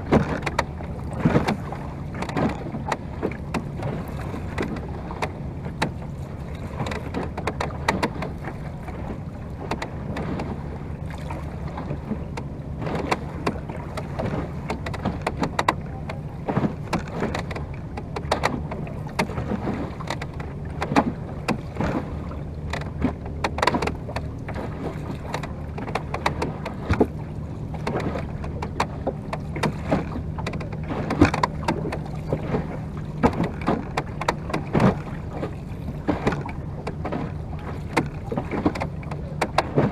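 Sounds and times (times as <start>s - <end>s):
water slapping against wooden boat: 0.0s - 39.9s.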